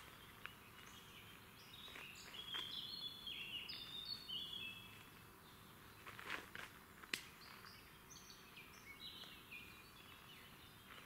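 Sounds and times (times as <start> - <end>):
songbird singing whistled notes: 0.0 - 6.2, 7.0 - 11.0
faint outdoor background noise: 0.0 - 11.0.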